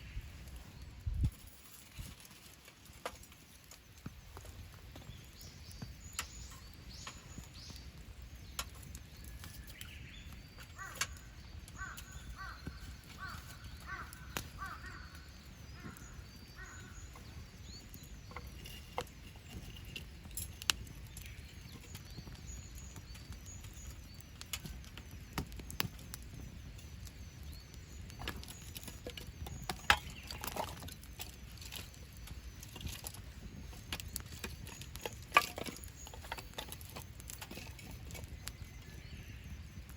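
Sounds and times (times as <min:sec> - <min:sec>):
campfire crackling and popping: 0:00.0 - 0:39.9
birds calling: 0:04.4 - 0:39.9.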